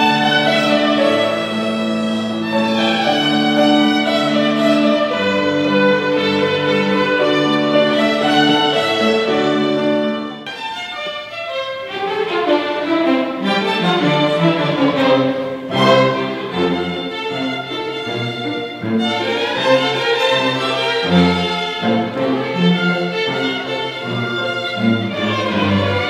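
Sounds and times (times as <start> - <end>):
violin ensemble playing: 0.0 - 26.0.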